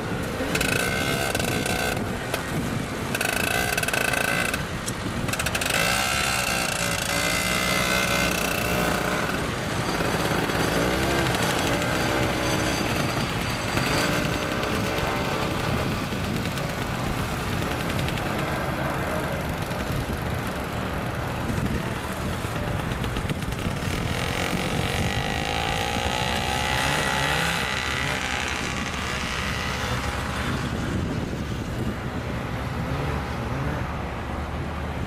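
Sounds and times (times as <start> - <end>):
snowmobile engines droning: 0.0 - 35.0
snowmobile engine passing by: 5.3 - 33.9.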